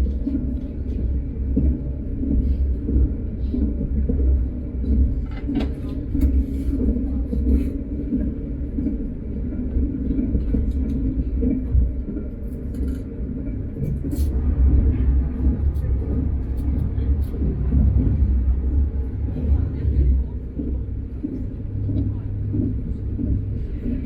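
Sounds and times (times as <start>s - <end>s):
train rumbling at speed: 0.0s - 24.0s.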